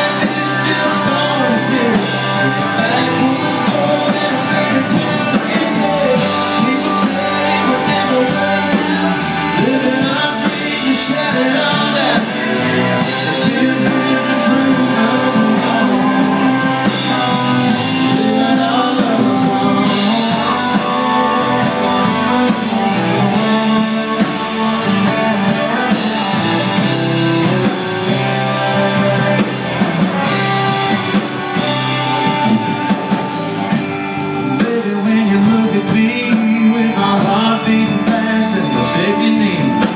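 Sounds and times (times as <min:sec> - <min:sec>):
live country-rock band: 0:00.0 - 0:39.9.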